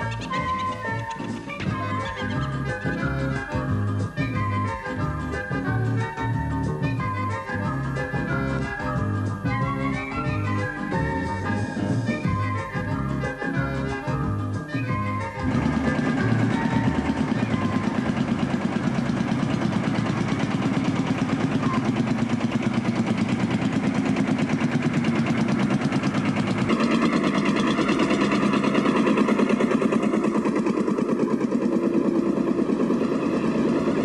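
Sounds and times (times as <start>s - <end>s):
tractor engines running: 0.0s - 34.0s.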